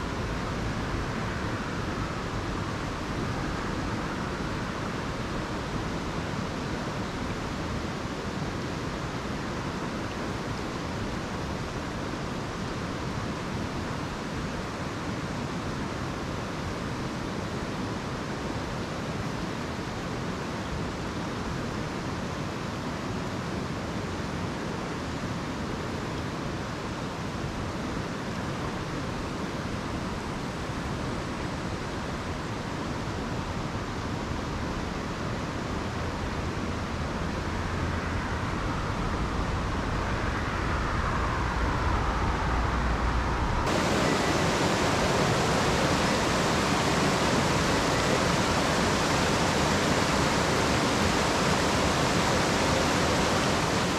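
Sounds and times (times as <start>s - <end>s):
mountain stream rushing: 0.0s - 40.1s, 43.6s - 53.9s.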